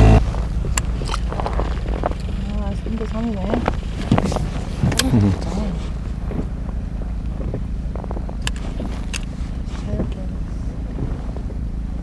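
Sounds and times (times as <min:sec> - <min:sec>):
outboard motor droning: 0:00.0 - 0:12.0
wind buffeting microphone: 0:00.0 - 0:12.0.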